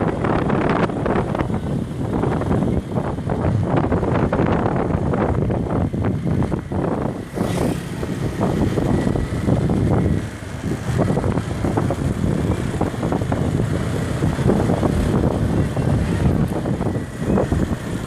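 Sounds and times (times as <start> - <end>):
motorbike engine: 0.0 - 18.0
road noise: 0.0 - 18.0
wind buffeting microphone: 0.0 - 18.0.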